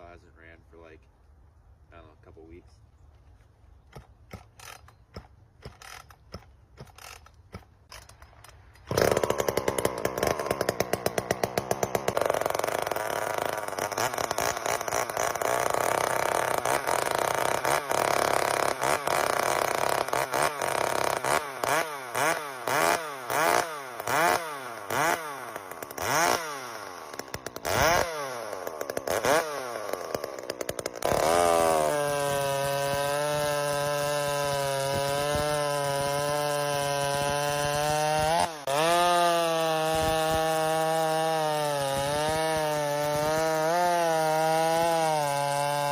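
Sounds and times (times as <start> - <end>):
chainsaw engine revving and idling: 8.8 - 45.9.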